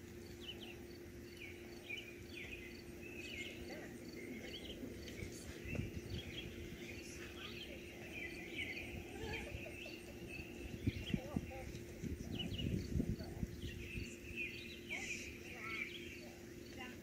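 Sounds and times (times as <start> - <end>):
birds chirping and calling: 0.0 - 17.0
steady low hum: 0.0 - 17.0.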